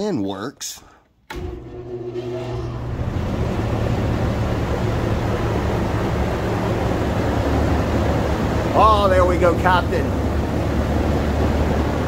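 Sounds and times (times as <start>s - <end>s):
exhaust fan drone: 0.7s - 12.0s.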